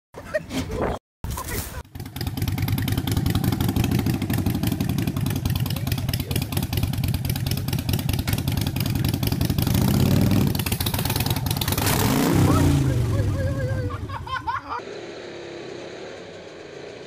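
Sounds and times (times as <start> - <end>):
motorcycle engine idling and revving: 1.8 - 17.0.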